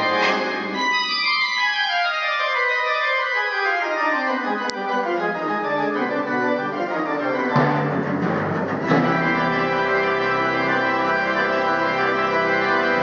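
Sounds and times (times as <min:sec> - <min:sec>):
orchestra playing classical music: 0:00.0 - 0:13.0.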